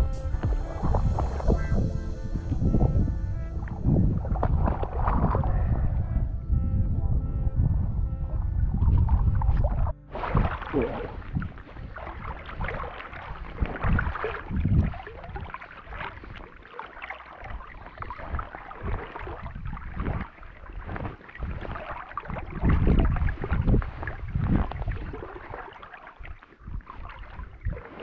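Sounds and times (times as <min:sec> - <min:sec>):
wind buffeting microphone: 0:00.0 - 0:16.6, 0:17.4 - 0:28.0
water sloshing and lapping: 0:00.0 - 0:28.0.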